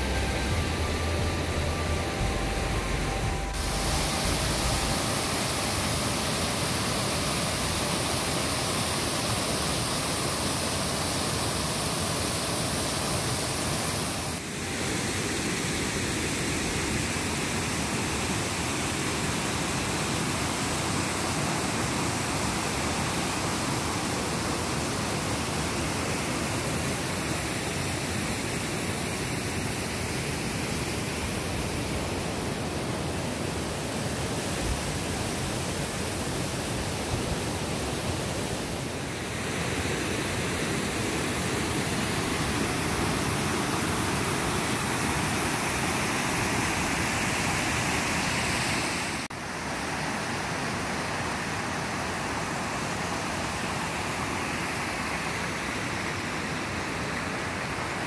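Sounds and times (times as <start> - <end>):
creek and small waterfall rushing: 0.0 - 58.0.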